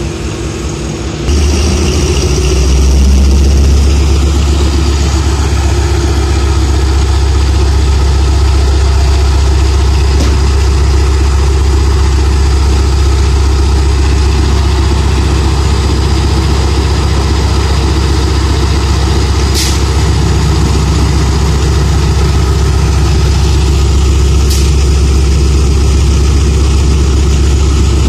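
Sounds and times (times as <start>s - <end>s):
locomotive engine idling: 0.0s - 28.0s.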